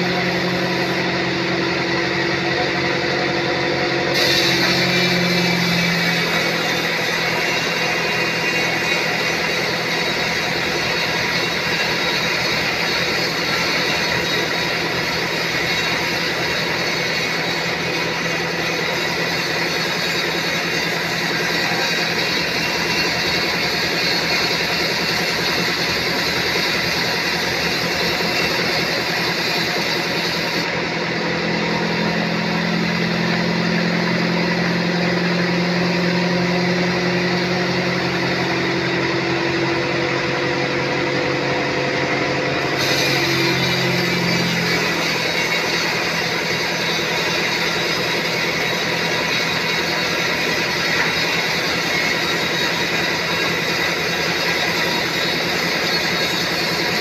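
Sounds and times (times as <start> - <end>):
band saw cutting a log: 0.0 - 57.0.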